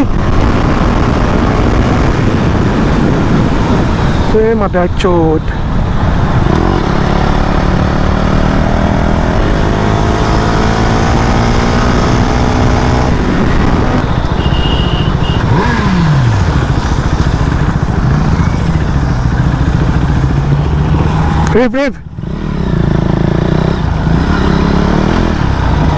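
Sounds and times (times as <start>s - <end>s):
motorcycle engine accelerating: 0.0s - 4.3s, 5.9s - 25.9s
wind and road noise: 0.0s - 25.9s.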